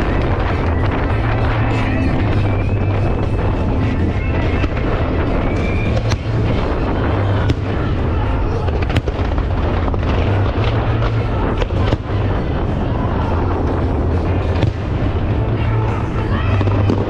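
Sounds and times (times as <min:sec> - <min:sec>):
fireworks bangs: 0:00.0 - 0:17.0
low rumble: 0:00.0 - 0:17.0.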